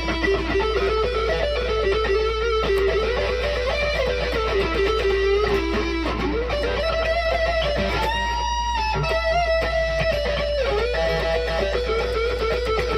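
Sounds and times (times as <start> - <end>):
electric guitar lead line: 0.0 - 12.9.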